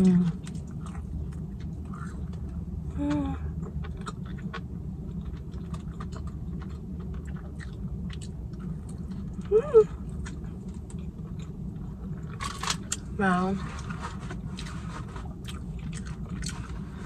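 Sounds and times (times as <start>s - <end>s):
low hum: 0.0s - 17.0s
person chewing food: 0.4s - 2.8s, 3.5s - 13.0s, 13.8s - 17.0s.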